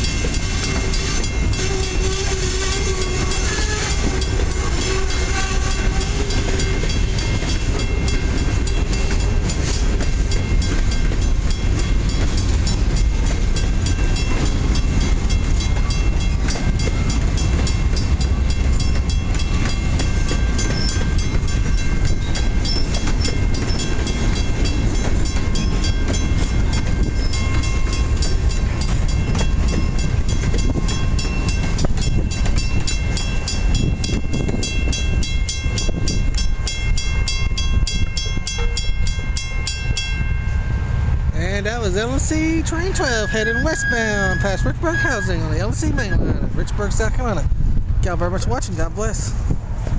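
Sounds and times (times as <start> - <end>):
steel wheels rumbling on rail: 0.0 - 49.9.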